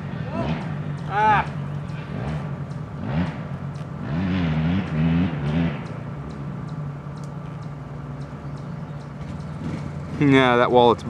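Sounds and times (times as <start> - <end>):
atv engine revving and idling: 0.0 - 11.0.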